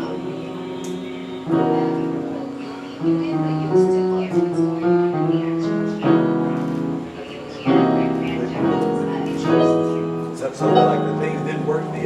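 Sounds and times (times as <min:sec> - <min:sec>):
instruments playing held chords: 0:00.0 - 0:12.0.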